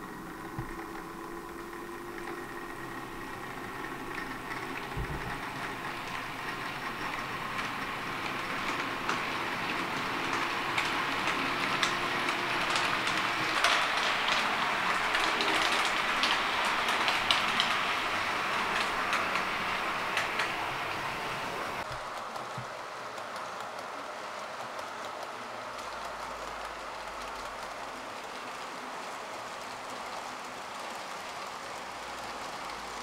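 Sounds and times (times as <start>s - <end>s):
model train rolling rattle: 0.0s - 33.0s
wheels clicking over rail joints: 0.0s - 33.0s.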